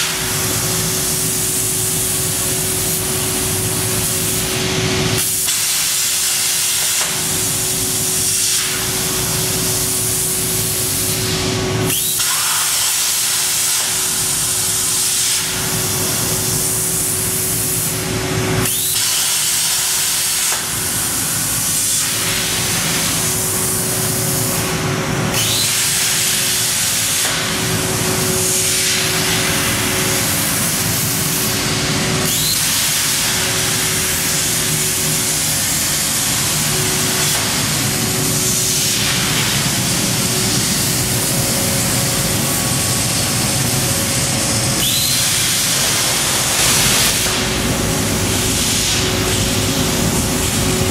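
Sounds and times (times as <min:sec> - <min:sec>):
plasma arc hissing: 0:00.0 - 0:50.9.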